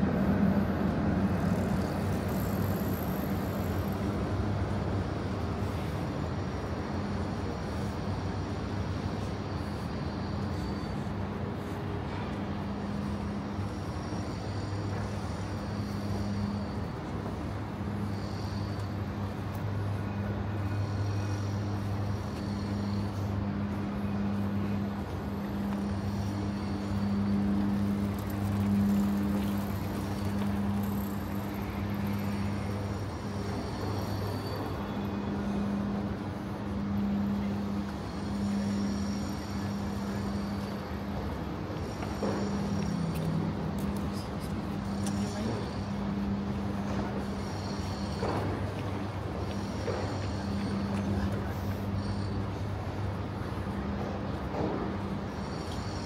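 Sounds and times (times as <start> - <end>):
cars passing: 0.0 - 56.0
steady low hum: 0.0 - 56.0.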